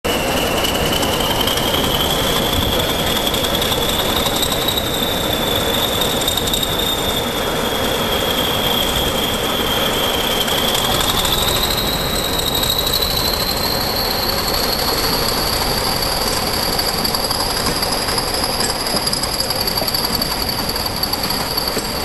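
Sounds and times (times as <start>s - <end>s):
diesel locomotive engines: 0.0s - 22.0s
high-pitched whistle: 0.1s - 22.0s.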